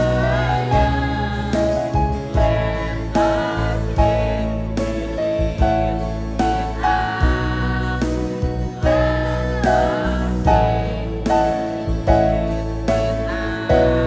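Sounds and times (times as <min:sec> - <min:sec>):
children's choir singing: 0:00.0 - 0:14.0
instrumental backing with steady beat: 0:00.0 - 0:14.0.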